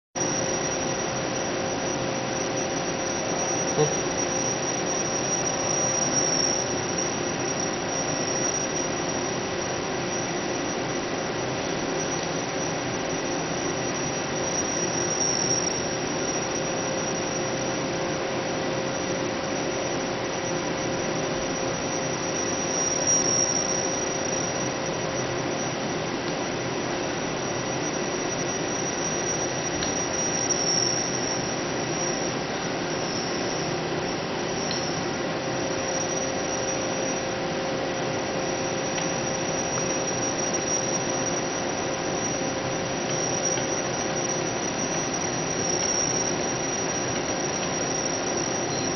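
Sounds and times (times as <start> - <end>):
machinery drone with whine: 0.2 - 48.9.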